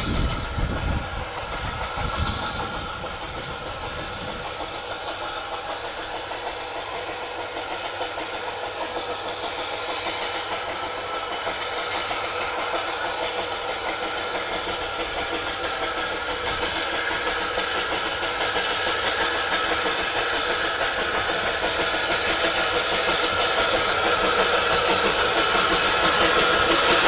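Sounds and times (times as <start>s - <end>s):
steam locomotive exhaust beats: 0.0s - 27.0s.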